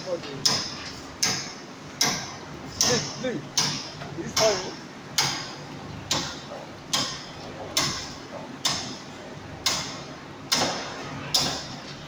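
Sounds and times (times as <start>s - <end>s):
sharp repeating knock: 0.4s - 9.0s, 9.6s - 11.7s.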